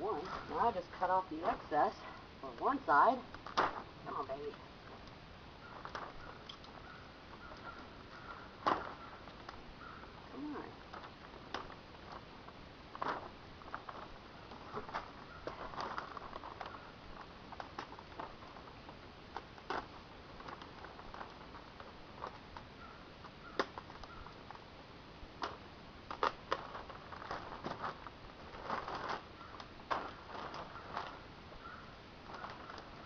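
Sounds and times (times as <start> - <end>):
plastic sheeting crinkling: 5.6 - 24.7, 25.3 - 33.0.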